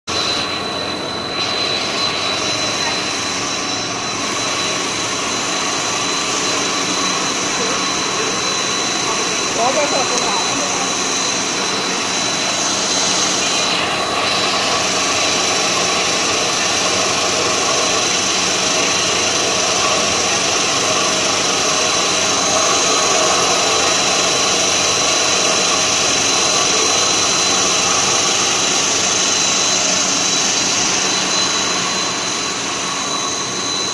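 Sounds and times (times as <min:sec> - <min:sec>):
high thin whine: 0:00.1 - 0:33.9
machinery whirring: 0:00.1 - 0:33.9.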